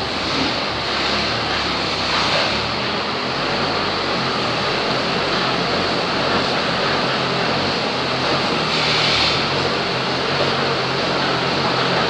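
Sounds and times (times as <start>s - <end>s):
pile driver engine running: 0.0s - 12.0s.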